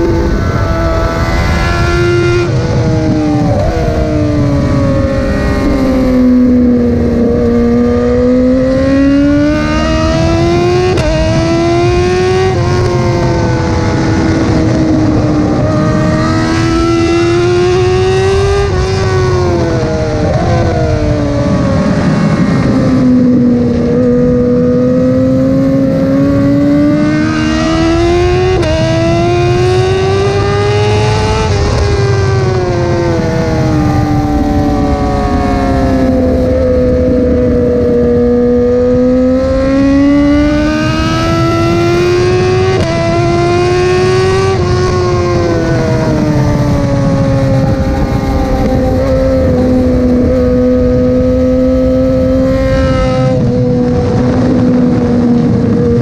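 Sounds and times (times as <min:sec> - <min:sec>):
motorcycle engine running hard: 0:00.0 - 0:56.0
wind and road noise rumble: 0:00.0 - 0:56.0.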